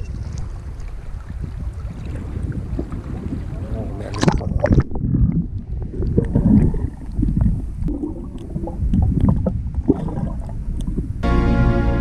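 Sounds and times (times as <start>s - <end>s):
muffled underwater churning: 0.0s - 11.2s.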